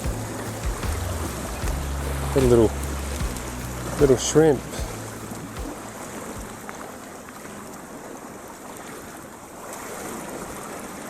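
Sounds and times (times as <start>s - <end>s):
hiss of water and wind: 0.0s - 11.0s.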